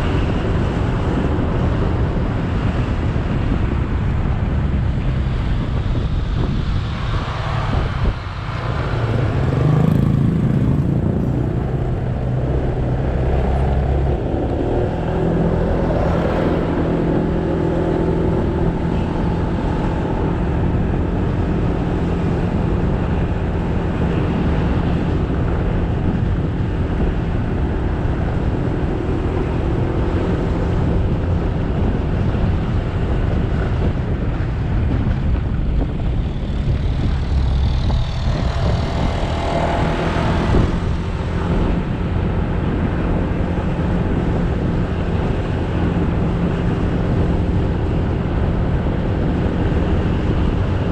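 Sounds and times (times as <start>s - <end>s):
motorcycle engine running: 0.0s - 50.9s
road and wind noise: 0.0s - 50.9s.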